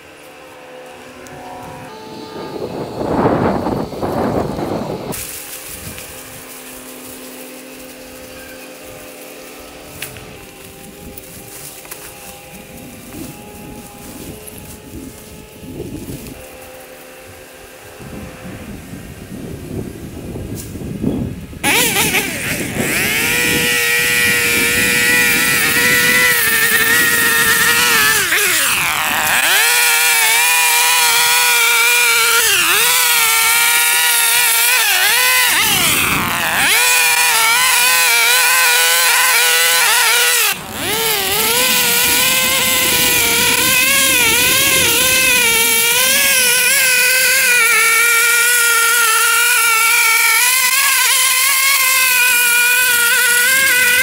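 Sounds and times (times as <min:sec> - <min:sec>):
lawn mower engine labouring: 0:00.0 - 0:20.3, 0:21.3 - 0:54.0.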